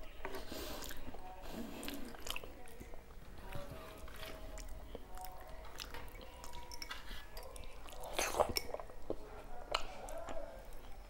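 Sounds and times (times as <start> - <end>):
person chewing wet mouth sounds: 0.3 - 11.0.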